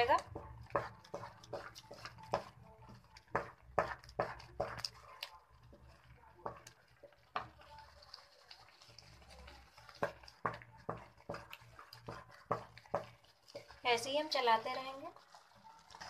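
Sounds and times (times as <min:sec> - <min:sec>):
spatula scraping thick paste in pan: 0:00.0 - 0:16.0.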